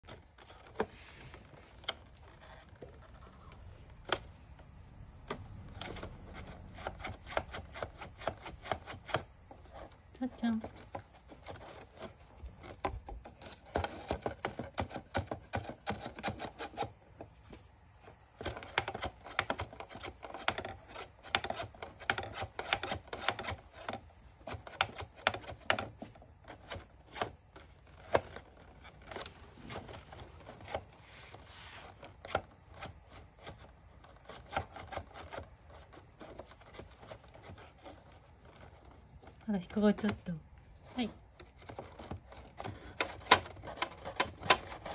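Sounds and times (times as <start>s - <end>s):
chopsticks clicking in cardboard toy: 5.2s - 17.3s, 18.4s - 30.9s, 31.8s - 44.9s.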